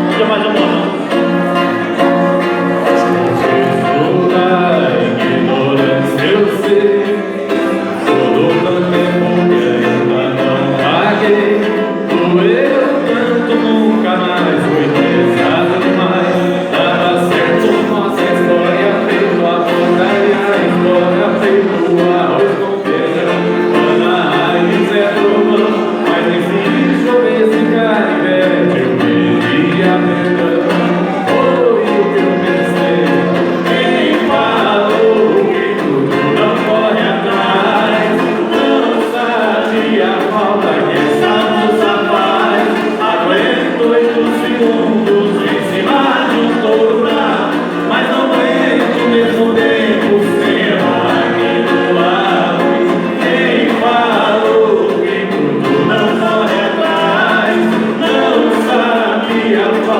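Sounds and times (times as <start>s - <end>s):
person singing over instruments: 0.0s - 59.9s.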